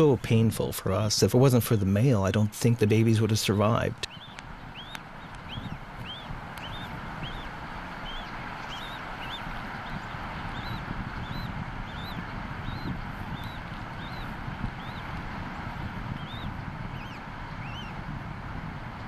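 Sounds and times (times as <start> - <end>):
eagle chick peeping: 0.0 - 18.0.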